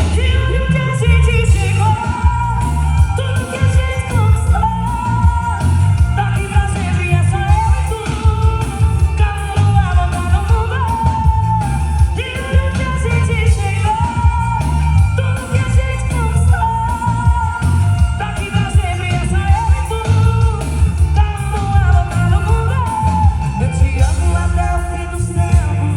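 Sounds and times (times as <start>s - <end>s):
band playing with heavy bass: 0.0s - 25.9s
woman singing pop song: 0.0s - 25.9s.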